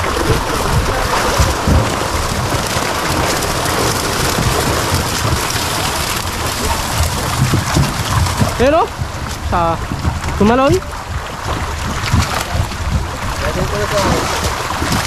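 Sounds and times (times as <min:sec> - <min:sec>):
fish thrashing and splashing: 0:00.0 - 0:15.0
heavier splashes: 0:00.0 - 0:15.0.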